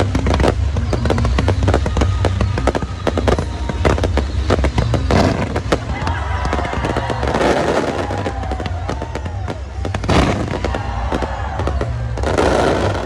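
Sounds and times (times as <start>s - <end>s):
fireworks crackling and banging: 0.0s - 13.0s
steady low rumble: 0.0s - 13.0s.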